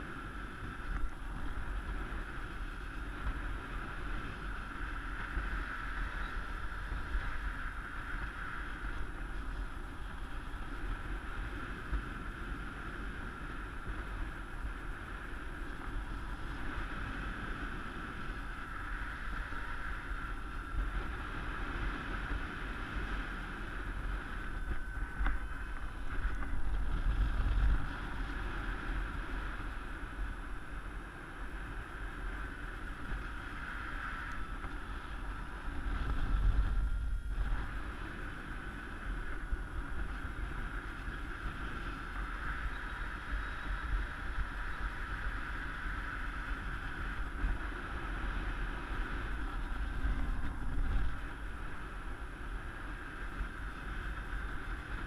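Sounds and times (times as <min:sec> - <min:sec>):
wind rushing over camera: 0:00.0 - 0:55.0.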